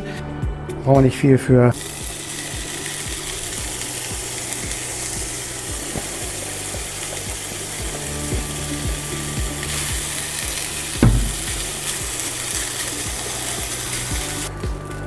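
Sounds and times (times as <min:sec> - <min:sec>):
mince frying in hot oil: 0:01.7 - 0:15.0.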